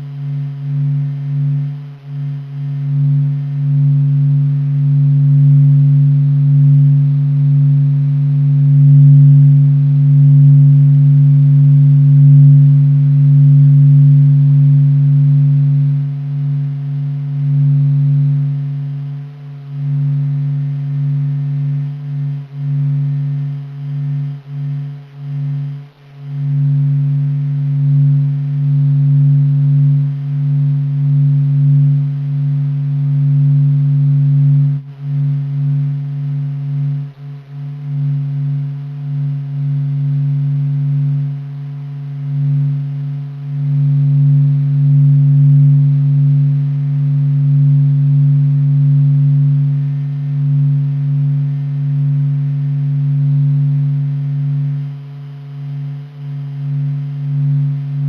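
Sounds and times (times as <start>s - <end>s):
low droning hum: 0.0s - 58.0s.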